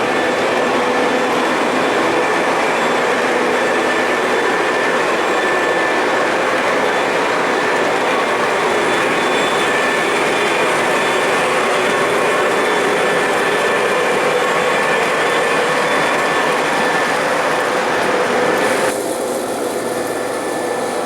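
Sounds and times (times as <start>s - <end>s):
model train wheels on rail: 0.0s - 21.0s.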